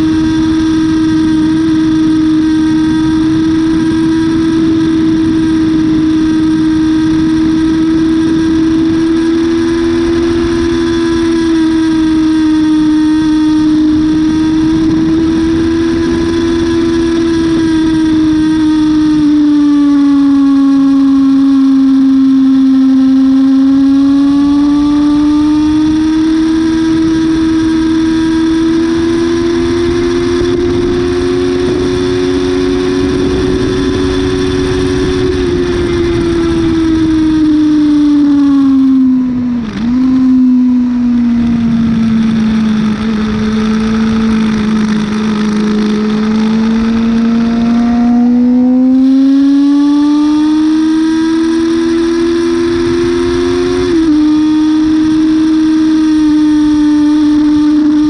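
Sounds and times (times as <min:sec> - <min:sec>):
wind rush: 0:00.0 - 0:22.6, 0:23.8 - 0:55.6
motorcycle engine at high revs: 0:00.0 - 0:58.0.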